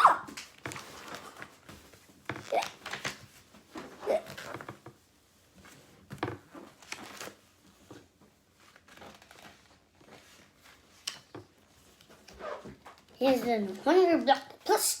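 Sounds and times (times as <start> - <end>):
paper rustling and crinkling: 0.3 - 14.2.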